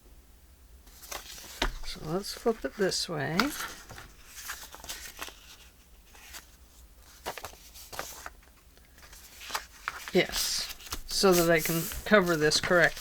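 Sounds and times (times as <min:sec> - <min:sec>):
paper rustling: 0:00.9 - 0:13.0.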